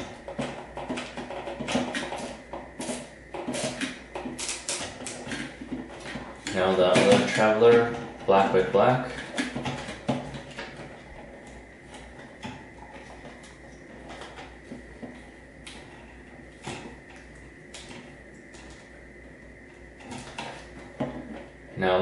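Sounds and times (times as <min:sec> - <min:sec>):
wire handling rustling: 0:00.0 - 0:21.6.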